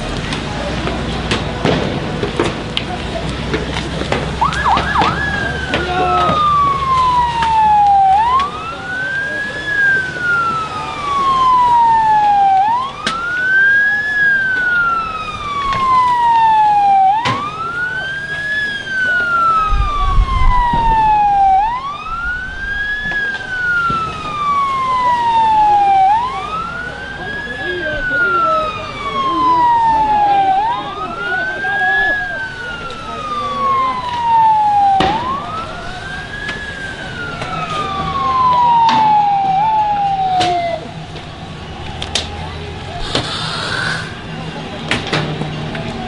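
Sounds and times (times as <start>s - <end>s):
crowd murmur: 0.0s - 46.0s
police siren wailing: 4.0s - 46.0s.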